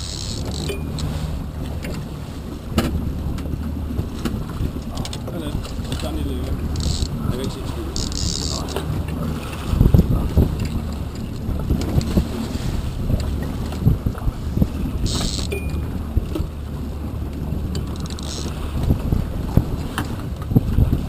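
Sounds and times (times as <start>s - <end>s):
boat engine low rumble: 0.0s - 21.0s
wind on microphone: 0.0s - 21.0s.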